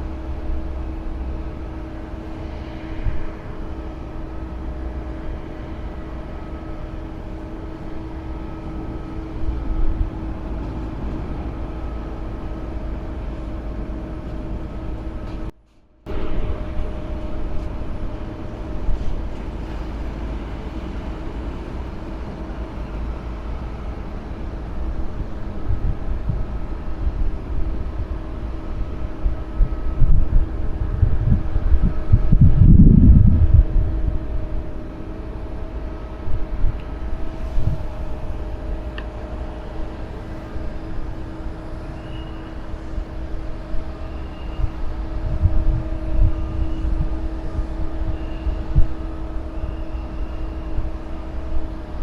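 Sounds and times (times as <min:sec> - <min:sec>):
low rumble: 0:00.0 - 0:52.0
mechanical hum with tones: 0:00.0 - 0:52.0.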